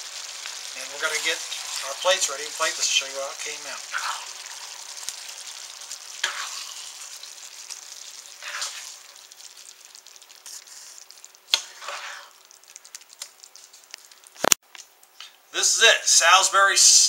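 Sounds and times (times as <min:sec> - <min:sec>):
spatula scraping skillet: 0:00.0 - 0:14.5
gravy simmering and sizzling: 0:00.0 - 0:14.6.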